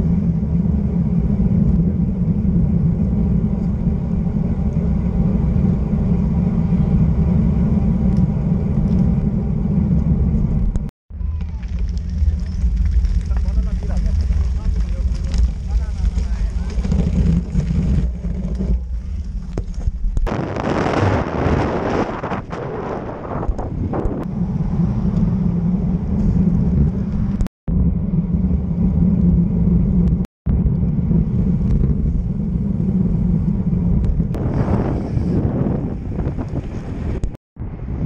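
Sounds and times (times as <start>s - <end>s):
bicycle tyre road noise: 0.0s - 38.0s
wind buffeting microphone: 0.0s - 38.0s.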